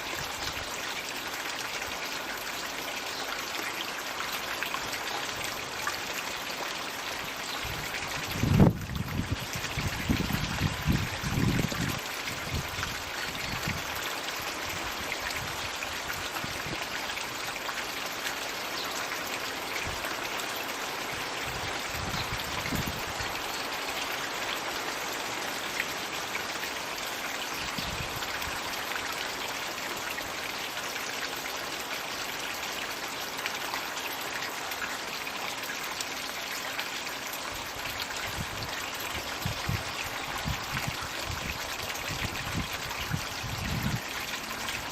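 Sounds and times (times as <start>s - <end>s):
water trickling into pond: 0.0s - 44.9s.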